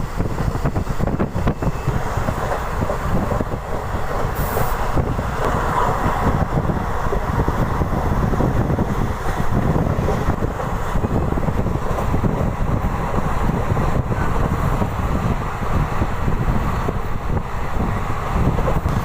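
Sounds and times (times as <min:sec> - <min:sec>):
train wheels rumbling on board: 0:00.0 - 0:19.0.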